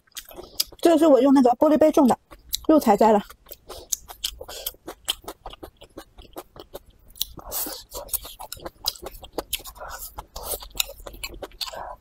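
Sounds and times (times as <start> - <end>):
person chewing and biting: 0.0 - 0.9, 2.2 - 12.0.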